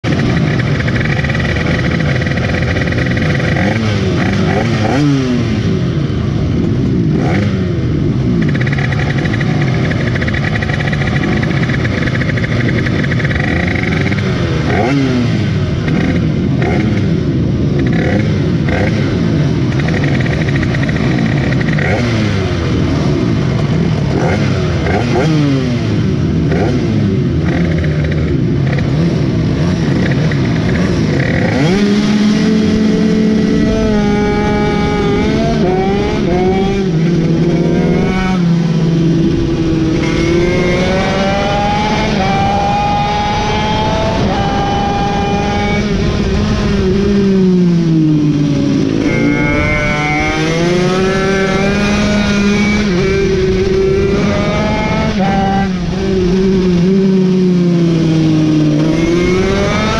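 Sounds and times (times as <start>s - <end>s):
minibike engines idling and revving: 0.0s - 59.9s.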